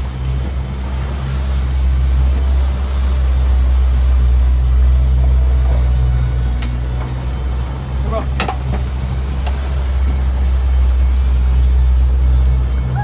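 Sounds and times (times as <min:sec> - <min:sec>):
boat engine droning: 0:00.0 - 0:13.0
water wash: 0:00.0 - 0:13.0.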